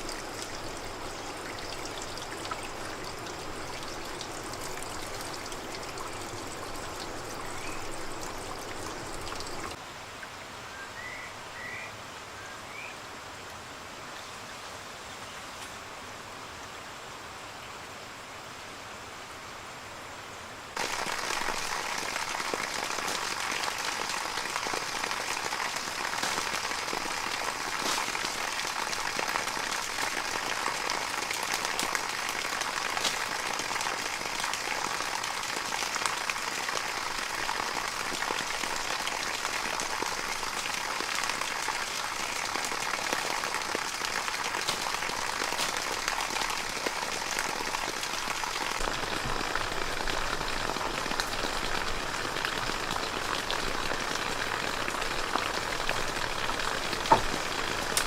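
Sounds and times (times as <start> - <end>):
falling water pattering: 0.0 - 9.8, 20.8 - 58.0.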